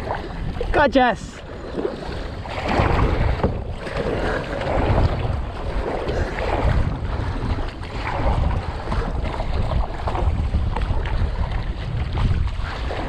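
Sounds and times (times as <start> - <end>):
paddle dipping in water: 0.0 - 13.0
waves splashing on kayak: 0.0 - 13.0
wind buffeting microphone: 0.0 - 13.0.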